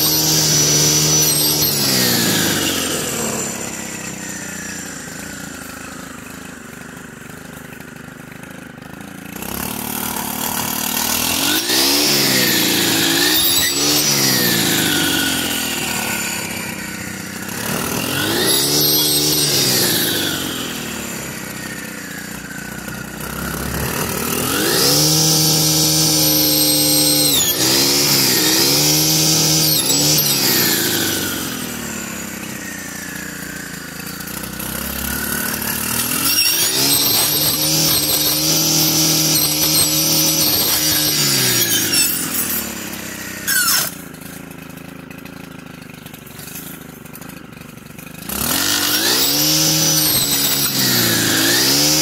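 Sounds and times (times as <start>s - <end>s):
brushcutter engine revving: 0.0s - 52.0s.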